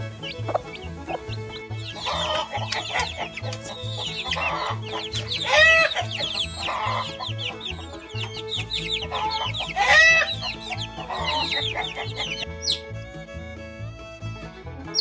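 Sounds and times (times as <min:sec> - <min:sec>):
chicks peeping: 0:00.0 - 0:12.9
loud hen call: 0:00.0 - 0:12.9
hens clucking: 0:00.0 - 0:13.0
background music with low beat: 0:00.0 - 0:15.0.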